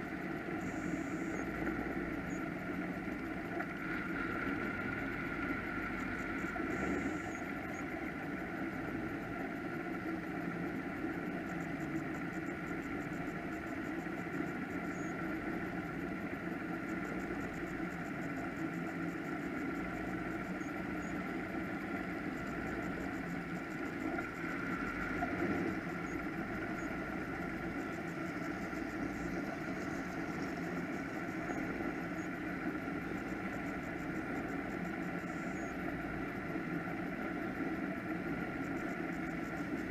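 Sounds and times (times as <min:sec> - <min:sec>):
powerboat engines idling: 0:00.0 - 0:39.9.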